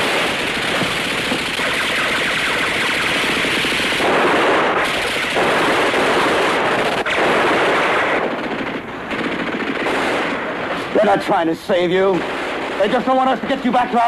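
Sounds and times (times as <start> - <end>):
machine-gun fire: 0.0 - 11.1, 12.1 - 14.0.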